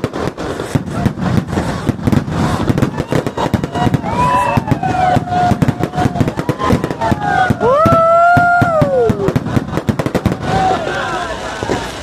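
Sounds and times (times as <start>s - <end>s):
fireworks bangs and crackles: 0.0s - 12.0s
fireworks whistling: 0.0s - 12.0s.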